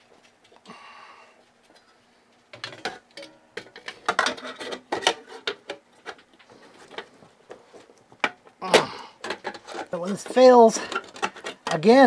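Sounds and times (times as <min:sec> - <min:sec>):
hands handling metal fan parts: 0:01.6 - 0:12.0.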